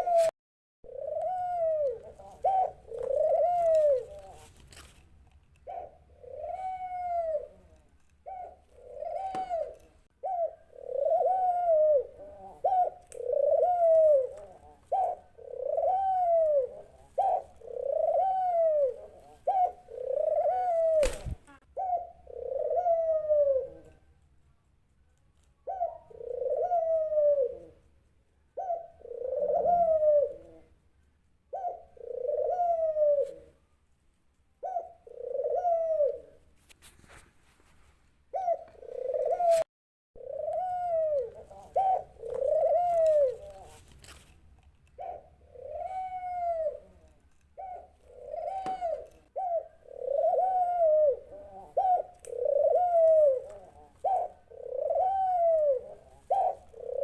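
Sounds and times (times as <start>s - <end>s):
dove cooing: 0.0s - 0.3s, 0.9s - 4.6s, 5.6s - 24.1s, 25.6s - 27.9s, 28.5s - 30.8s, 31.5s - 33.6s, 34.6s - 36.4s, 38.3s - 44.0s, 44.9s - 57.0s.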